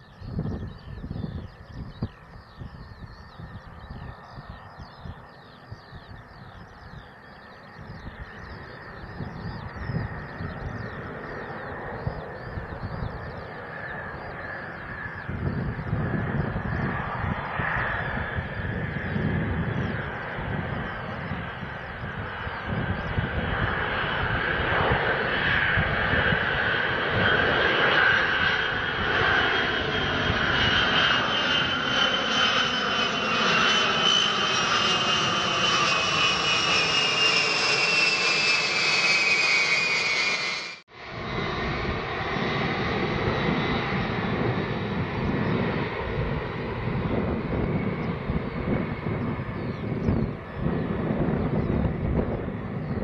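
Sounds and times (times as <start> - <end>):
jet aircraft passing overhead: 0.0 - 53.0.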